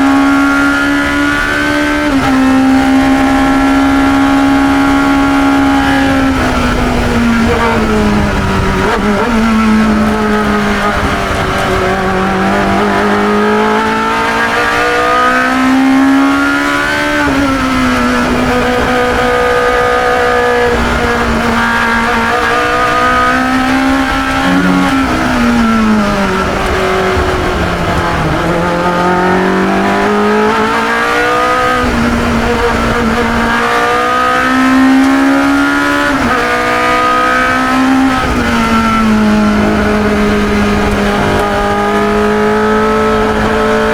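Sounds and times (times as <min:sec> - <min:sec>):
racing car engine accelerating: 0:00.0 - 0:43.9.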